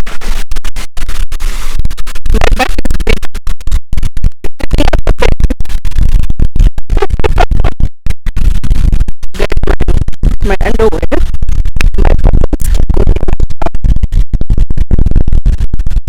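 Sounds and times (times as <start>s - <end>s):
electronic music with heavy bass: 0.0s - 6.0s, 6.6s - 16.0s.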